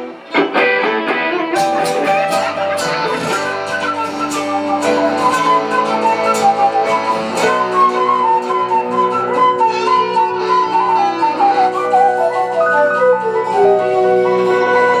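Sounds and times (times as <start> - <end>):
guitar accompaniment: 0.0 - 15.0
flute solo: 1.6 - 15.0.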